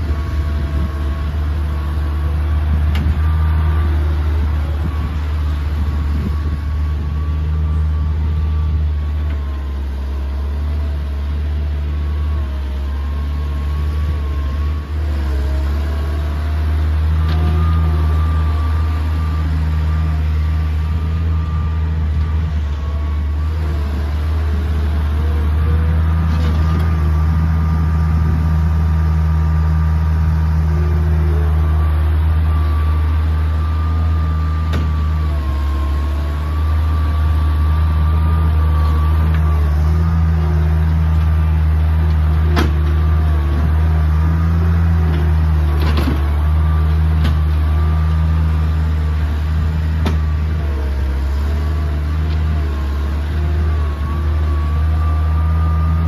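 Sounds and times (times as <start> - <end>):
skid steer engine hum: 0.0 - 56.0.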